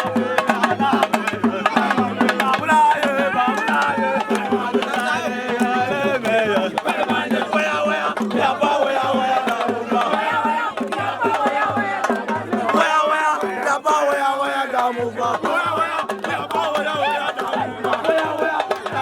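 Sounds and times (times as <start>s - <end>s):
drums in fast rhythm: 0.0s - 19.0s
voices singing together: 0.0s - 19.0s.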